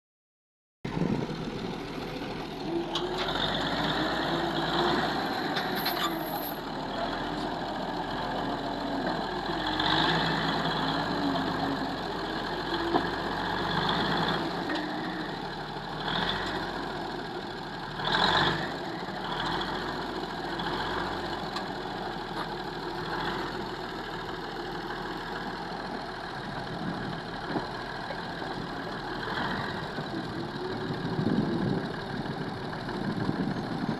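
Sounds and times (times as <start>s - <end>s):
bulldozer diesel engine revving: 0.9s - 33.9s.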